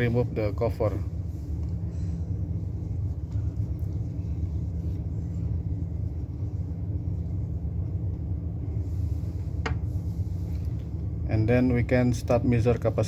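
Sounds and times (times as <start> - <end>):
low machine drone: 0.0 - 13.0.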